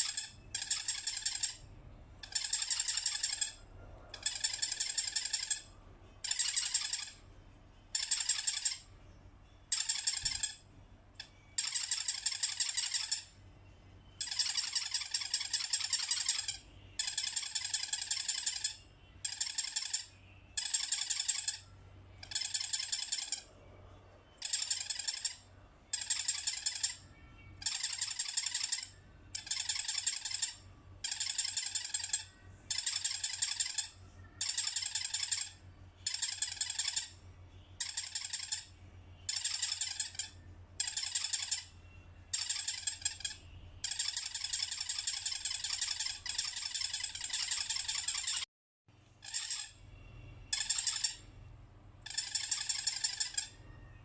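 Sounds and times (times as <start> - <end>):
squeaky toy squeaking: 0.0 - 23.6, 24.3 - 48.5, 49.2 - 54.0.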